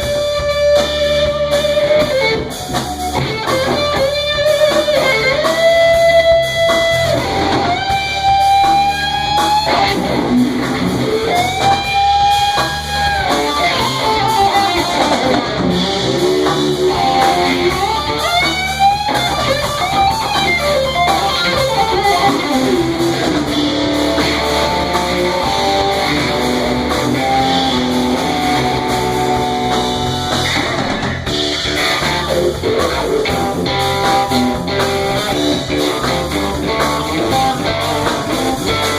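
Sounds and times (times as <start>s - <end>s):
electric guitar lead line: 0.0s - 38.9s.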